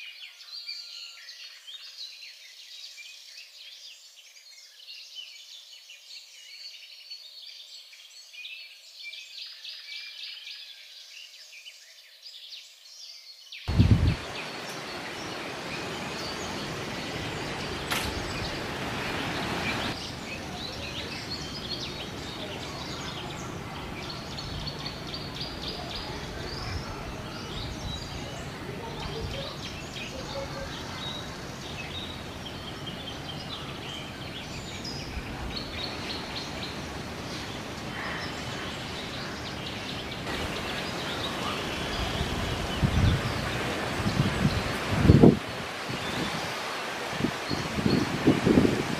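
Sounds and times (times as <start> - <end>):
small birds chirping: 1.3 - 48.9
outdoor background hiss: 2.0 - 48.9.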